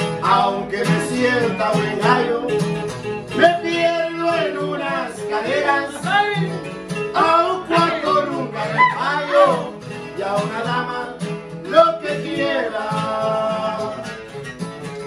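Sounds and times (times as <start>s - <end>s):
rhythm guitar: 0.0s - 13.2s
lead guitar picking melody: 0.0s - 15.0s.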